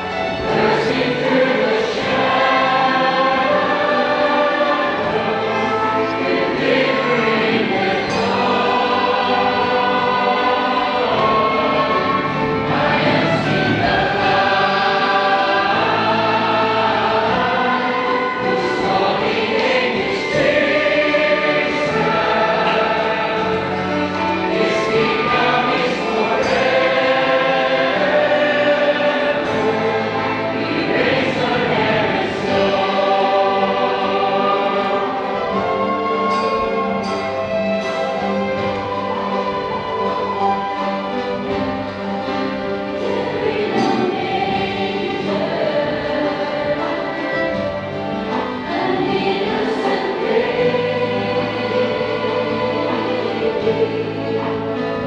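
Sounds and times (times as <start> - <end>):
choir singing gospel: 0.0 - 55.0.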